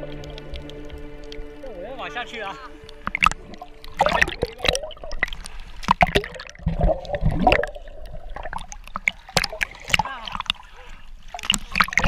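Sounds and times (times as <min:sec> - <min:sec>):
underwater bubbling gurgle: 0:00.0 - 0:12.0
water sloshing and splashing: 0:00.0 - 0:12.0.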